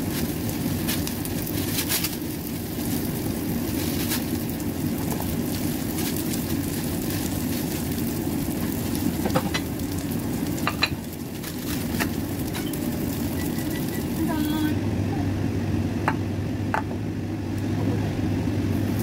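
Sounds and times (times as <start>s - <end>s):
patties sizzling in oil: 0.0s - 15.0s, 15.8s - 19.0s.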